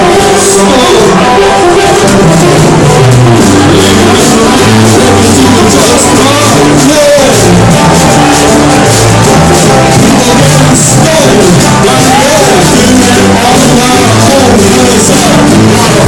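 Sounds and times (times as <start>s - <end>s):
bass line: 0.0s - 16.0s
live band playing: 0.0s - 16.0s
person singing: 0.0s - 16.0s.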